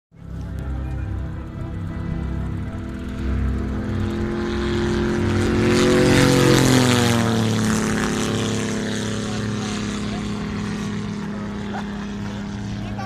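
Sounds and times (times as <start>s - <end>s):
propeller plane passing overhead: 0.1s - 13.0s.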